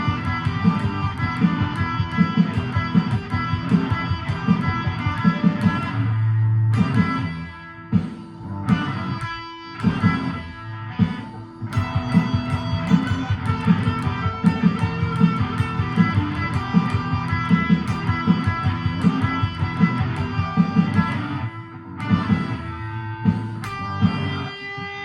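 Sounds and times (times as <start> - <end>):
backing track: 0.0 - 25.0
electric guitar playing: 0.0 - 25.0.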